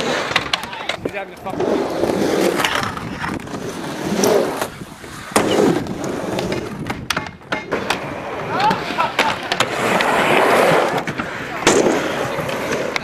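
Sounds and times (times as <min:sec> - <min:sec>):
skateboard clacks: 0:00.0 - 0:13.0
skateboard wheels rolling: 0:00.0 - 0:13.0.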